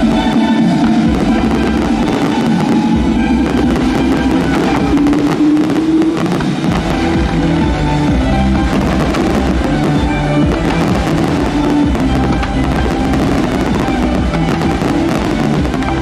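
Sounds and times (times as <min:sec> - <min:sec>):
fireworks popping and crackling: 0:00.0 - 0:16.0
music playing: 0:00.0 - 0:16.0.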